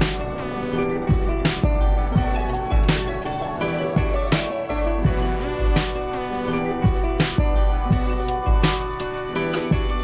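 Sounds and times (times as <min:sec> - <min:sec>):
soundtrack music with steady beat: 0:00.0 - 0:10.0.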